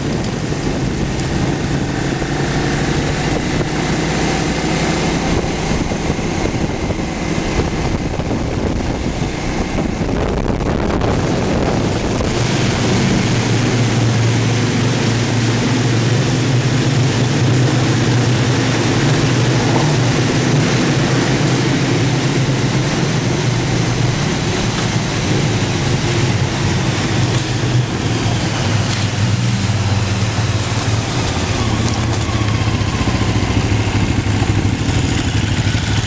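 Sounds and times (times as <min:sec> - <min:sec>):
motorcycle engine running: 0:00.0 - 0:36.0
wind noise: 0:00.0 - 0:36.0.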